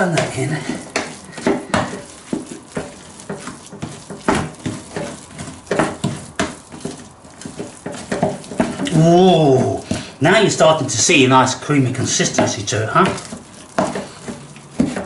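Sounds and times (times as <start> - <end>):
utensil scraping saucepan: 0.0 - 15.0.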